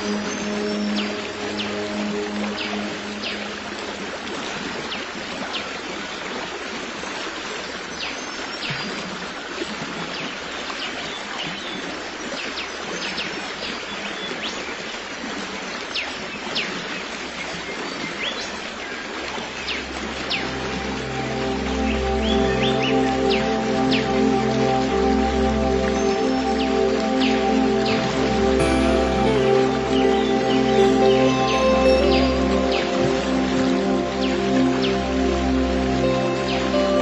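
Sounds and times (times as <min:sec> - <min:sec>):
stream water running: 0:00.0 - 0:37.0.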